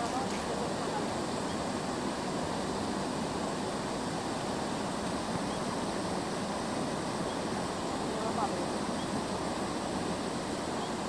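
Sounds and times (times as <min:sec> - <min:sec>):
flooded river rushing: 0:00.0 - 0:11.0.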